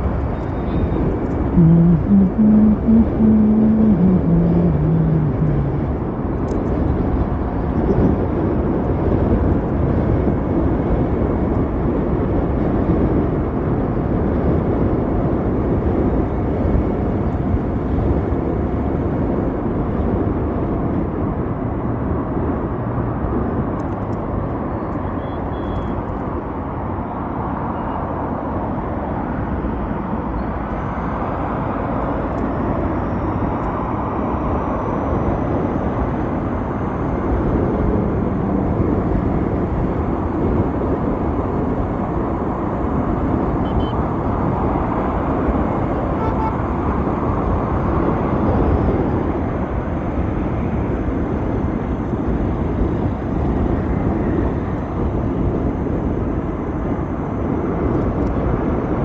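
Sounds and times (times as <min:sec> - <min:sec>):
wind rush: 0:00.0 - 0:25.1, 0:26.0 - 0:59.0
road noise: 0:00.0 - 0:59.0.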